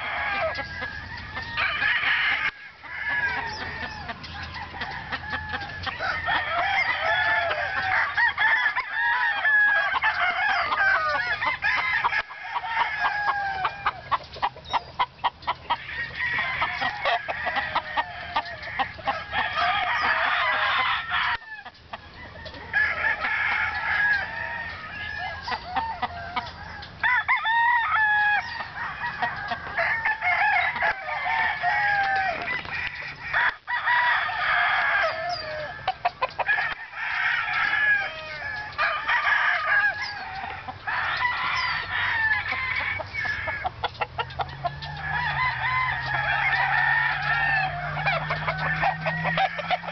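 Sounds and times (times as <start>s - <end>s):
chickens clucking: 0.0s - 49.9s
roosters crowing: 0.0s - 49.9s.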